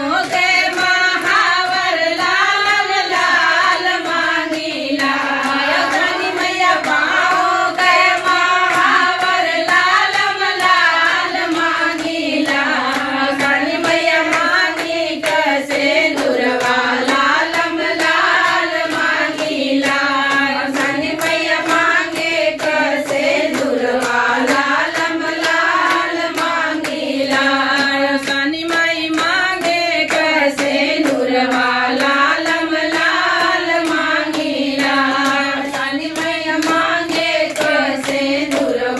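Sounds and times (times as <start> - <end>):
hand claps: 0.0 - 38.9
women singing folk song: 0.0 - 38.9.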